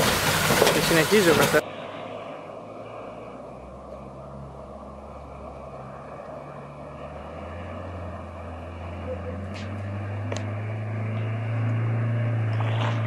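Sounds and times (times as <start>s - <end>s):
car engine low drone: 0.0s - 13.0s.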